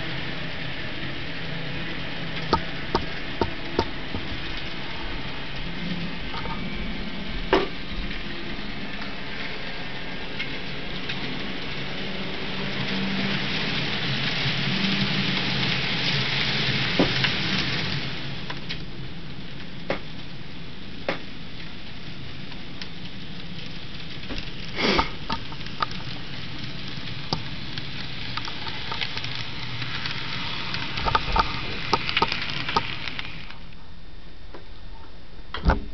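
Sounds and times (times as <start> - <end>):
model train running hiss: 0.0 - 33.8
wheels clicking over rail joints: 0.0 - 33.8.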